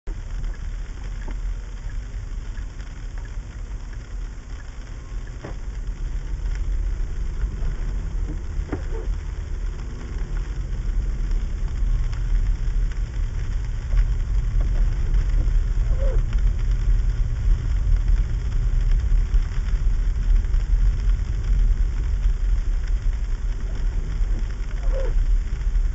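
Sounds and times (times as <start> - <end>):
car engine and tyres rumbling: 0.0 - 25.9
faint ticks: 0.1 - 25.9.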